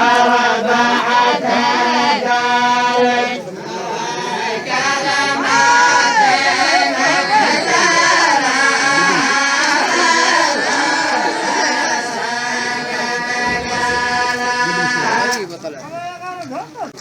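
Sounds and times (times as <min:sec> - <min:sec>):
group of voices chanting: 0:00.0 - 0:15.4.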